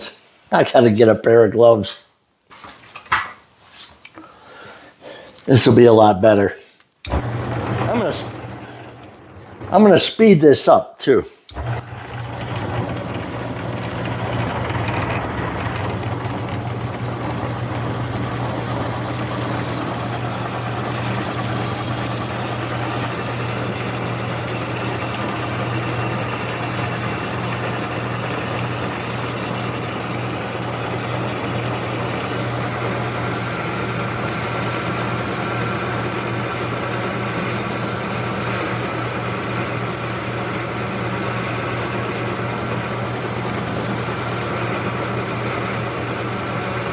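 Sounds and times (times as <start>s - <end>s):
metal lathe running: 7.1s - 10.1s, 11.5s - 46.9s.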